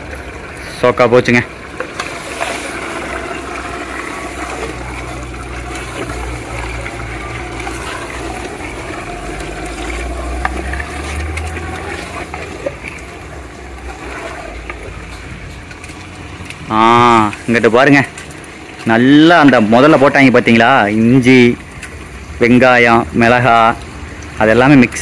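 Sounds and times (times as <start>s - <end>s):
stove flames rumbling: 0.0s - 25.0s
chicken sizzling in oil: 1.7s - 22.4s.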